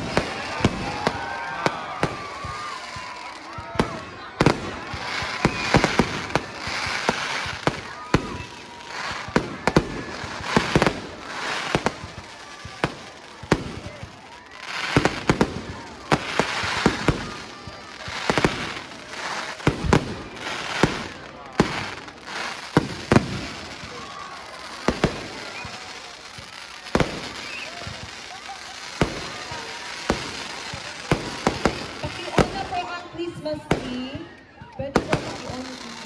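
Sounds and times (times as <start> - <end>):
firework crackling: 0.0 - 36.0.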